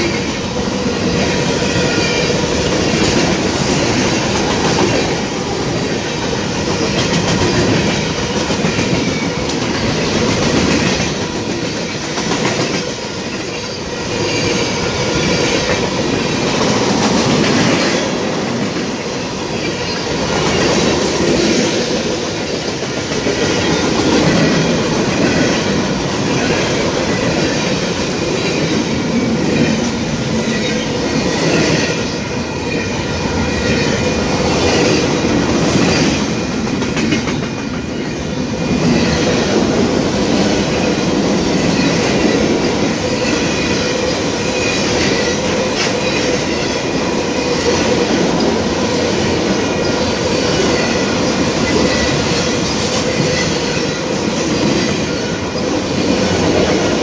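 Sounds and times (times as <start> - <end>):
clickety-clack of train wheels: 0.0 - 57.0
freight train wheels rumbling: 0.0 - 57.0.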